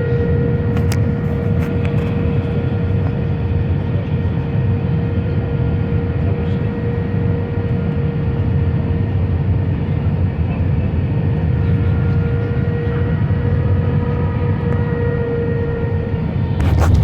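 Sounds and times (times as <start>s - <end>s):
constant whine: 0.0s - 17.0s
jet engines rumbling in cabin: 0.0s - 17.0s.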